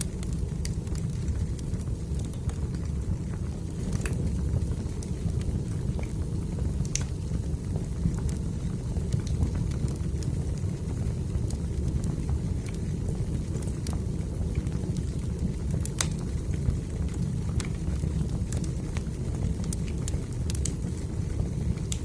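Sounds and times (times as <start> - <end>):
fire popping: 0.0 - 22.0
wood fire crackling: 0.0 - 22.0.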